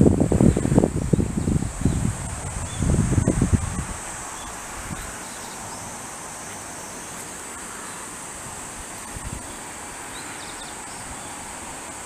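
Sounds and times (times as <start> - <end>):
high-pitched insect trill: 0.3 - 12.0.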